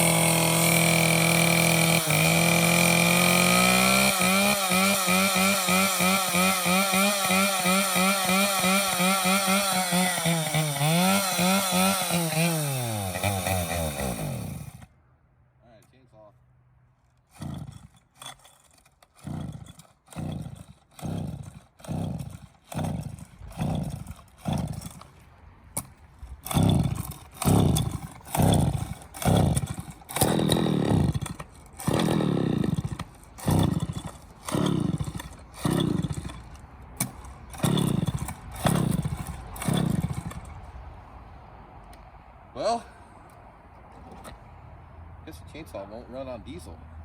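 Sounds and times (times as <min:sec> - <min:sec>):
chainsaw pull-start cranking: 0:00.0 - 0:14.9, 0:17.1 - 0:40.7.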